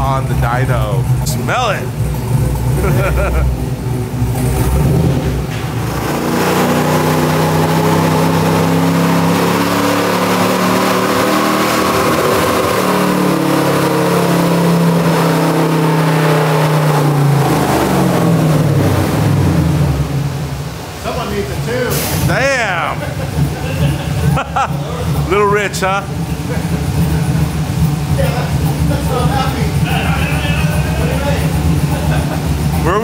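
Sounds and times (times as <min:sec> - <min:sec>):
engine revving at full throttle: 0:00.0 - 0:20.8, 0:21.7 - 0:33.0.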